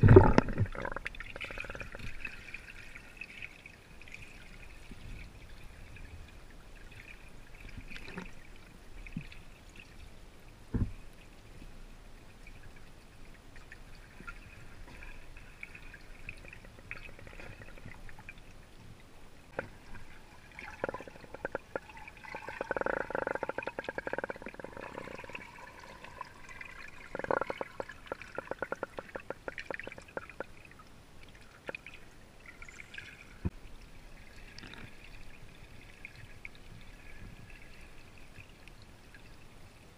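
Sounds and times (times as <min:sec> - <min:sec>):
muffled underwater wash: 0:00.0 - 0:39.9.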